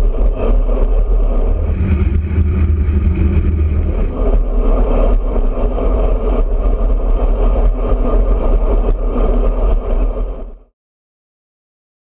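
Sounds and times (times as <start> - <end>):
tyre and road noise: 0.0 - 10.2
wind buffeting microphone: 0.0 - 10.6.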